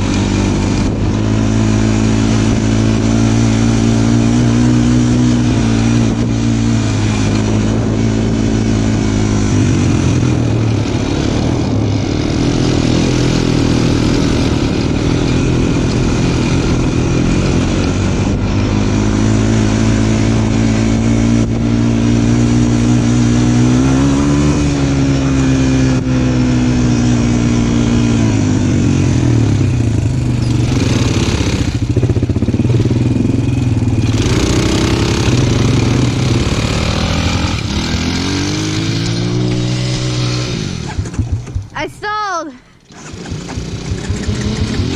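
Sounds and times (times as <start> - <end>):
rushing wind noise: 0.0 - 42.1
off-road vehicle engine revving: 0.0 - 42.2, 42.8 - 44.9.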